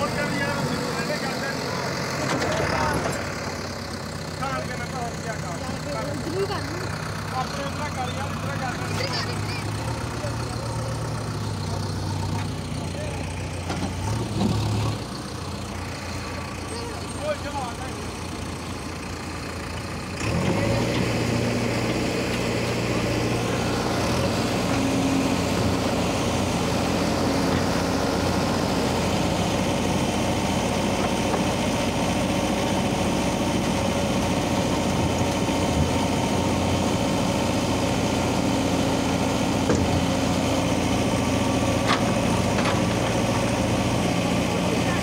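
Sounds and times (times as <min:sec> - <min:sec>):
backhoe diesel engine running: 0:00.0 - 0:45.0.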